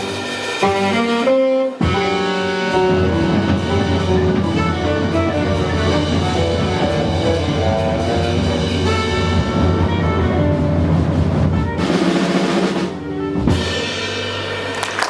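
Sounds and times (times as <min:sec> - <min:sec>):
live jazz band playing: 0:00.0 - 0:15.0.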